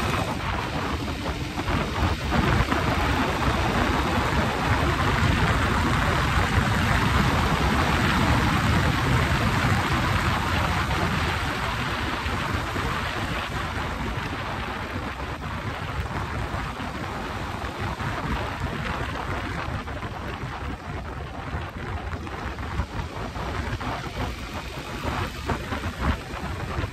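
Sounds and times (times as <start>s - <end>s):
motorcycle engine: 0.0s - 26.9s
road noise: 0.0s - 26.9s
wind buffeting microphone: 0.0s - 26.9s.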